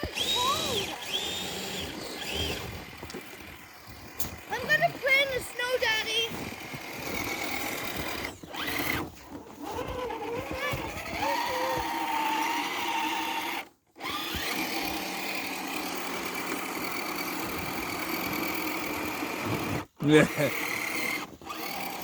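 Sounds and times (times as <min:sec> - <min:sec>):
electric toy truck motors whining: 0:00.0 - 0:22.0.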